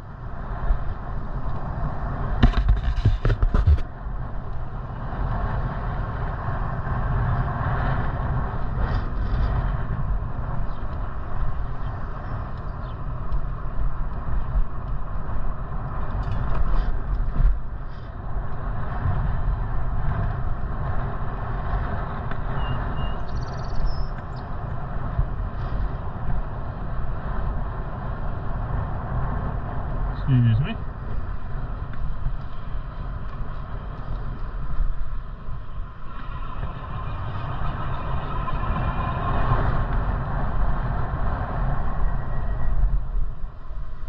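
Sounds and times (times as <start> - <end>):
bicycle road rumble: 0.0 - 44.0
vehicle traffic: 0.0 - 44.0
wind rushing: 0.0 - 44.0.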